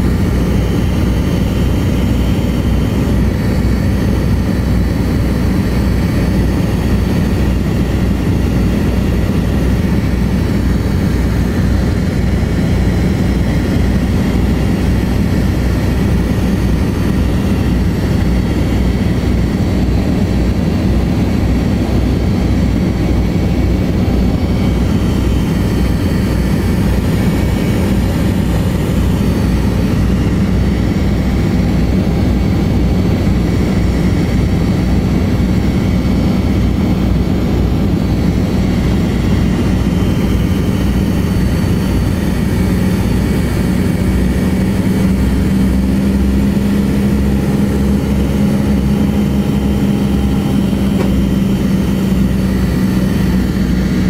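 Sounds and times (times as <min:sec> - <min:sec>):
low hum: 0:00.0 - 0:54.0
radial engines and propellers droning: 0:00.0 - 0:54.0.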